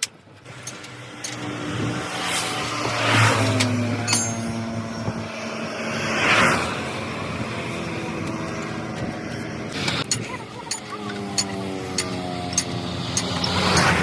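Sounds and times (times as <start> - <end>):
engine hum: 0.0 - 14.0
rushing noise of passing vehicles: 0.2 - 14.0.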